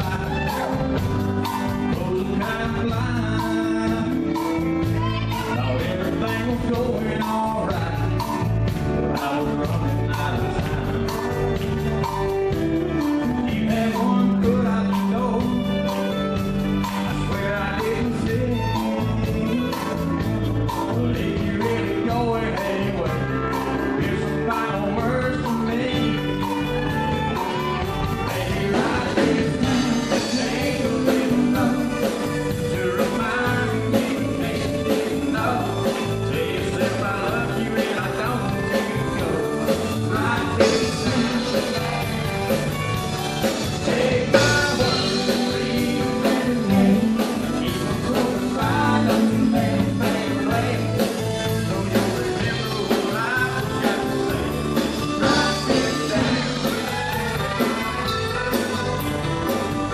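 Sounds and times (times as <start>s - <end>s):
drums: 0.0s - 59.9s
electric guitar: 0.0s - 59.9s
man singing: 0.0s - 59.9s
pedal steel guitar: 0.0s - 59.9s.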